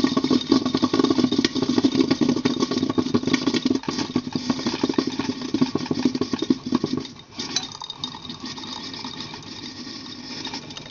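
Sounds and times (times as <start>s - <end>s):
coffee machine motor rattling: 0.0s - 10.9s.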